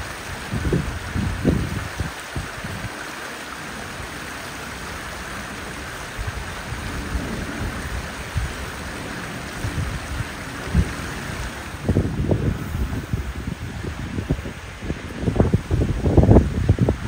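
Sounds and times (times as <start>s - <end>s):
rushing water or rain: 0.0s - 17.0s
wind buffeting microphone: 0.0s - 17.0s.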